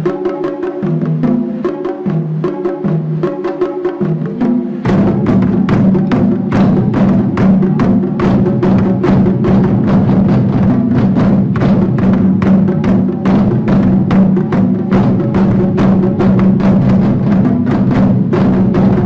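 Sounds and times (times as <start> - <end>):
taiko drums beating: 0.0 - 19.0.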